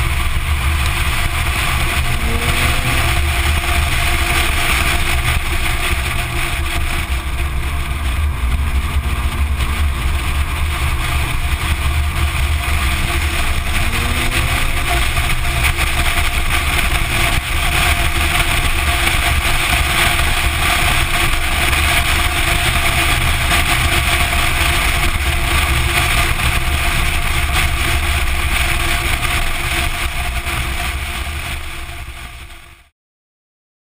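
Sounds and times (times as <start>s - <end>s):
car engine running: 0.0s - 31.8s
road noise: 0.0s - 32.8s.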